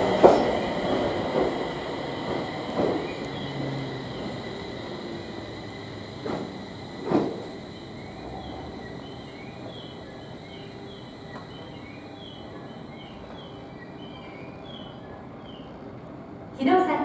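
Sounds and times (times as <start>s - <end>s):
train low hum with whine: 0.0s - 17.0s.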